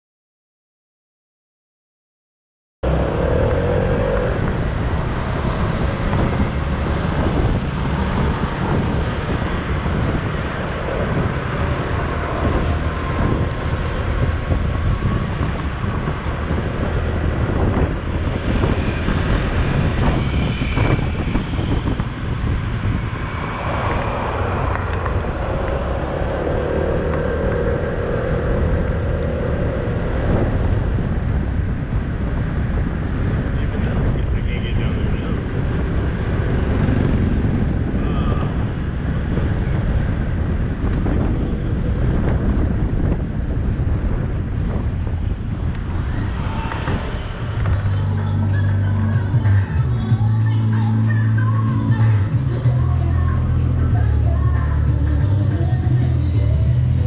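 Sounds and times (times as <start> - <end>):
steady engine hum: 2.8 - 57.0
traffic road noise: 2.8 - 57.0
wind buffeting microphone: 2.8 - 57.0.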